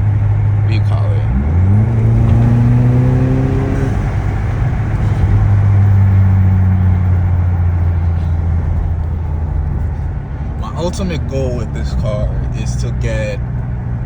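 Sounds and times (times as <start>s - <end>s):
car engine pulling while driving: 0.0s - 14.0s.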